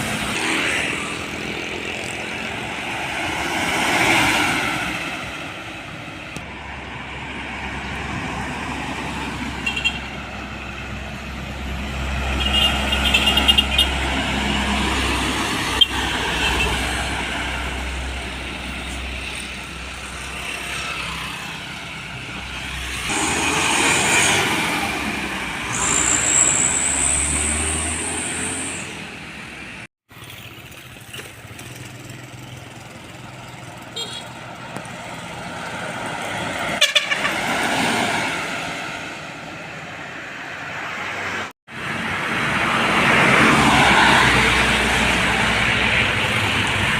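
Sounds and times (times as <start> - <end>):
diesel trucks rumbling: 0.0 - 46.9
road traffic passing: 0.0 - 46.9.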